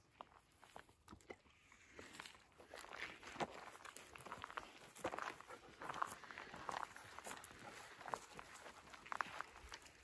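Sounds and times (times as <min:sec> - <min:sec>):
footsteps on gravel: 0:01.8 - 0:10.0.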